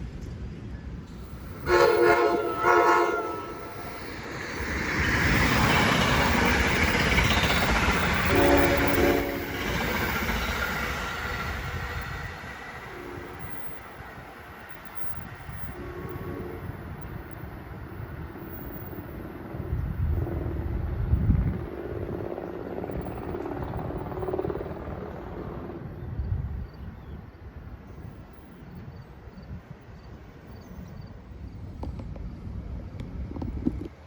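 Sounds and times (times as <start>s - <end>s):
train rumbling past: 0.0s - 34.0s
wind buffeting microphone: 0.0s - 34.0s.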